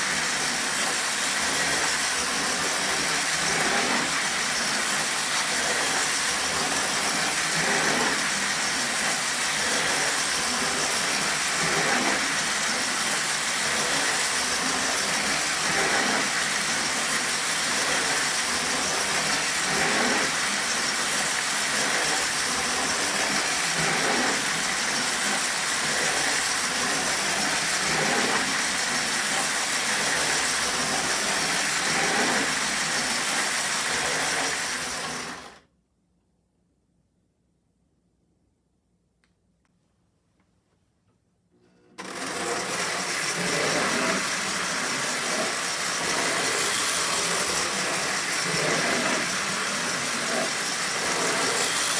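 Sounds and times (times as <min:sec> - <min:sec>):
toy train running on track: 0:00.0 - 0:35.6, 0:42.0 - 0:51.9.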